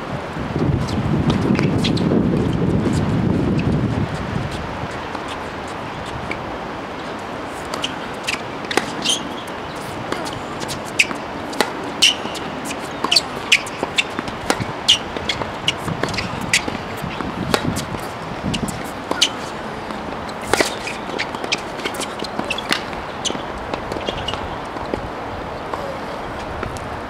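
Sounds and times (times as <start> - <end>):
tennis balls hit and bouncing: 0.8 - 3.7, 4.5 - 26.0.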